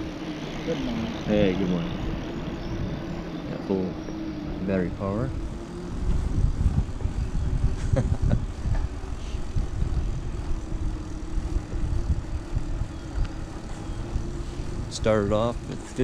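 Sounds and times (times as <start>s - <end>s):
bike tyre rumble on asphalt: 0.0s - 16.0s
steady low hum: 0.0s - 16.0s
wind buffeting microphone: 0.0s - 16.0s.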